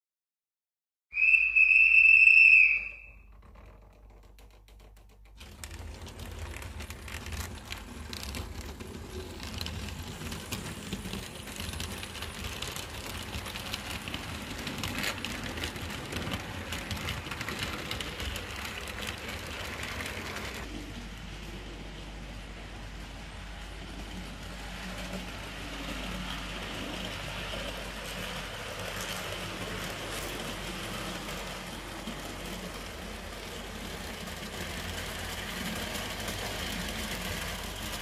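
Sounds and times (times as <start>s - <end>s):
wheels clicking on rails: 1.6s - 38.0s.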